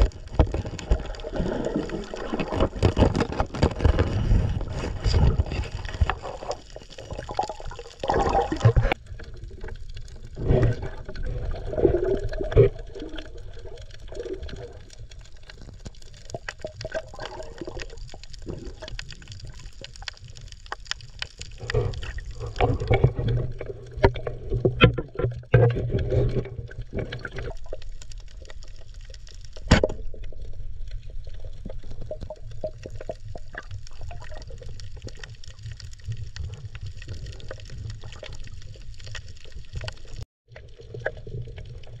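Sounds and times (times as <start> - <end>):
underwater water sloshing: 0.0 - 42.0.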